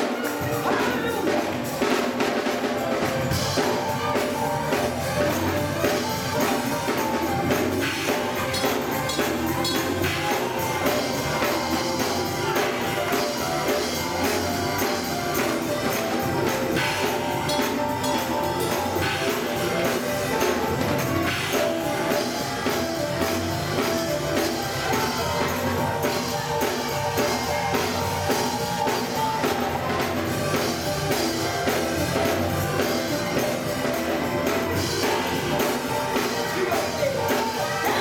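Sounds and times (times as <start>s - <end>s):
held instrumental tones: 0.0s - 38.0s
steady drum beat: 0.0s - 38.0s.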